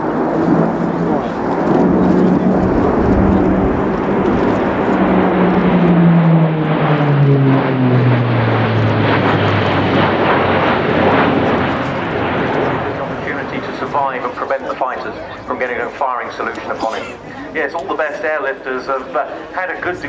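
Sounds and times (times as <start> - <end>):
turboprop aircraft flying past: 0.0 - 16.5.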